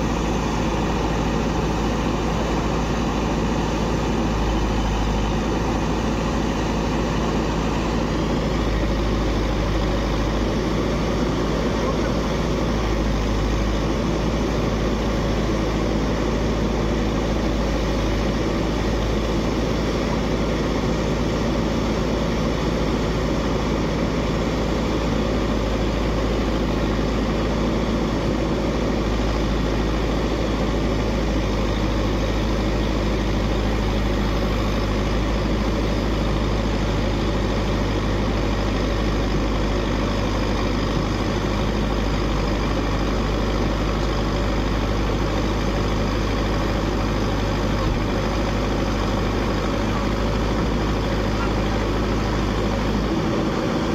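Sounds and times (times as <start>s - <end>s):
diesel engine running steadily: 0.0s - 53.9s.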